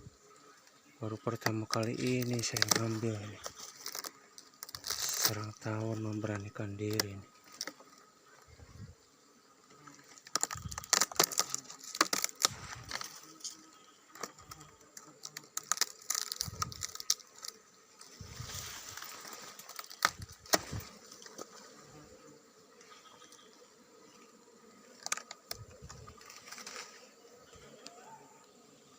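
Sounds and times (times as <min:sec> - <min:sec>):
rotten wood crackling and scraping: 0:01.0 - 0:08.8, 0:09.7 - 0:22.0, 0:24.9 - 0:28.0.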